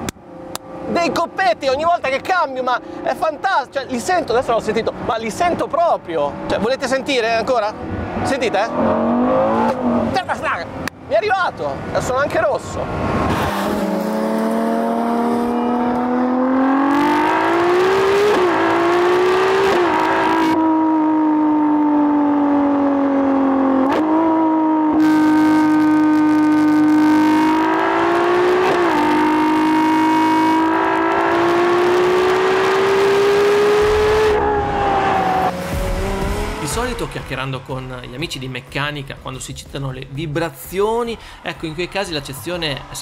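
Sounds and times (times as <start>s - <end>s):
car engine revving: 0.0s - 38.6s.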